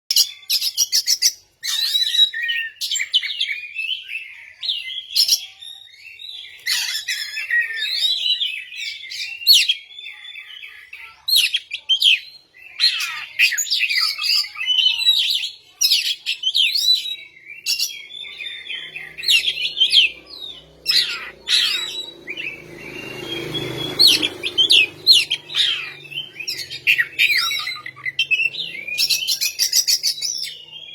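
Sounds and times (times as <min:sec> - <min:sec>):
bird singing whistles and trills: 0:00.1 - 0:30.9.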